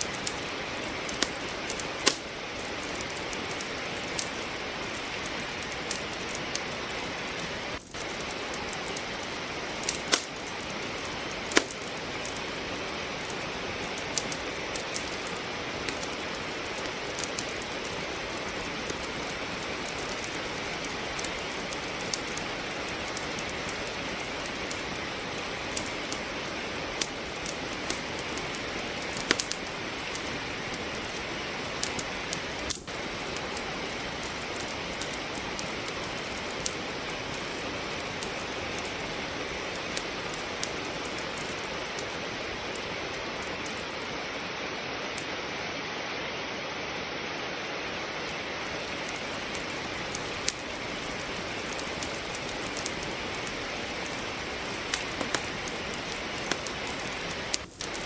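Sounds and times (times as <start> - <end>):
firewood crackling in fireplace: 0.0 - 58.0
steady rain hiss: 0.0 - 58.0.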